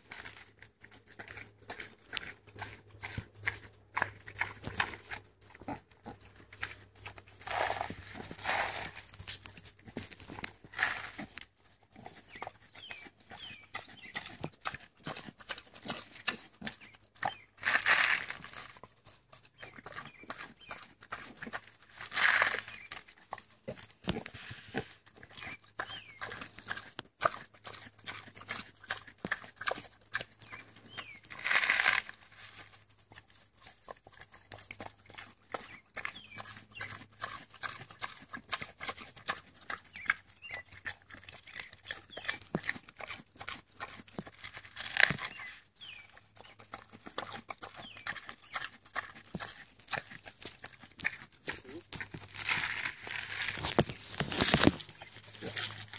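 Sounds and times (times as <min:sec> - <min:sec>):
pig chewing lettuce: 0:00.0 - 0:55.9.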